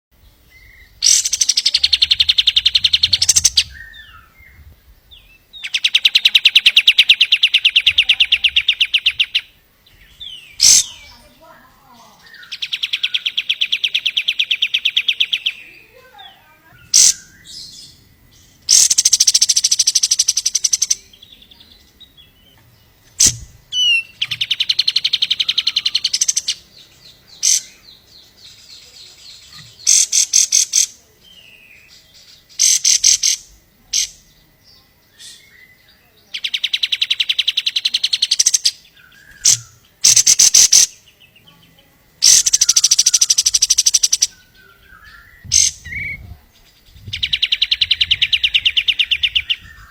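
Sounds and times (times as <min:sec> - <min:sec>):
soft chirps: 0:00.2 - 0:49.9
songbird trilling: 0:00.2 - 0:49.9.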